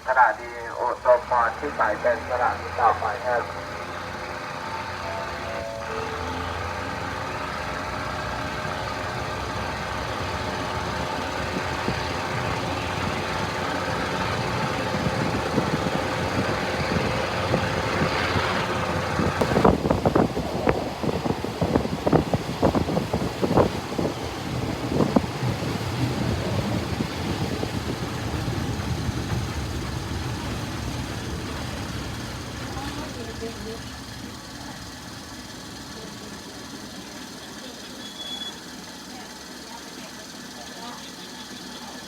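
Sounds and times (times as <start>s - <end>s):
diesel railcar engine drone: 0.0s - 42.0s
wheels clacking over rail joints: 3.6s - 42.0s.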